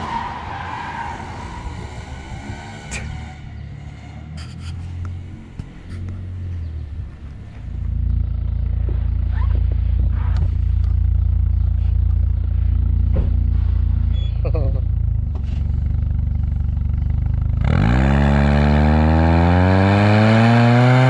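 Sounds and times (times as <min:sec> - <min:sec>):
car exhaust droning: 0:00.0 - 0:21.0.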